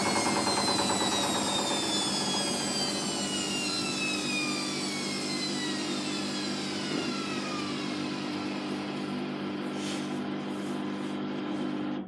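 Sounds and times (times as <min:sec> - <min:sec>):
washing machine spin whine: 0:00.0 - 0:12.0.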